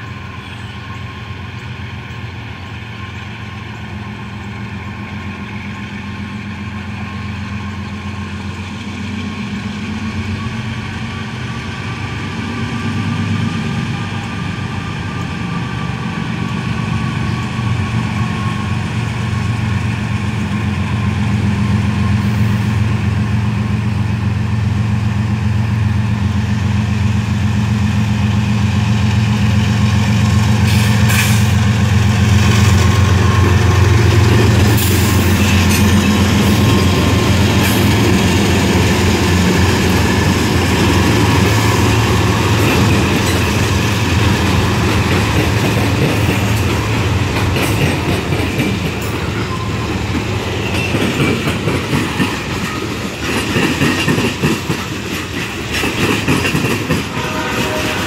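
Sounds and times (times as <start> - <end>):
diesel locomotive engine hum: 0.0 - 58.0.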